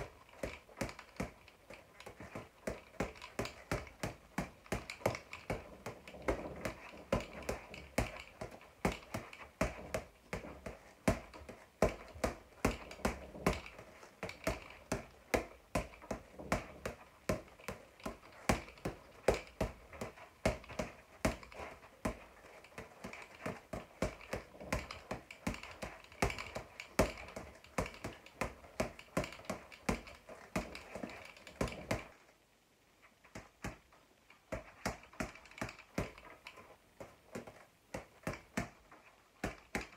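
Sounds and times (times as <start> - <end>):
boxing gloves punching a ball: 0.0 - 32.2, 33.3 - 33.9, 34.5 - 39.9.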